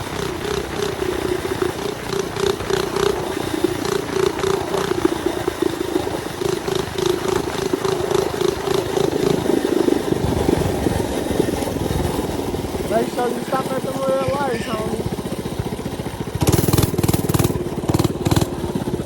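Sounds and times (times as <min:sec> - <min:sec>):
small engine droning: 0:00.0 - 0:19.0.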